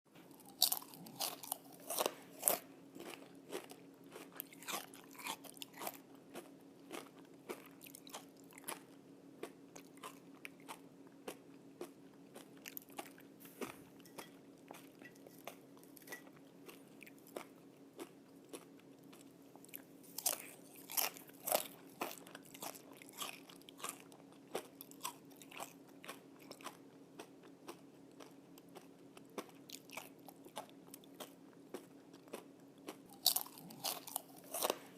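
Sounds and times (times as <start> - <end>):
crispy bacon crunching: 0.2 - 34.9.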